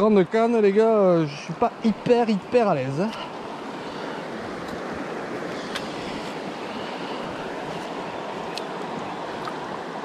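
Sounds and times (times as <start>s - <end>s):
river current rushing: 0.0s - 10.0s.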